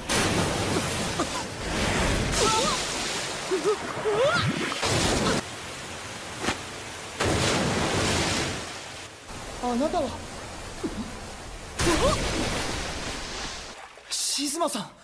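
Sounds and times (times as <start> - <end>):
rushing splashing water: 0.0 - 14.7.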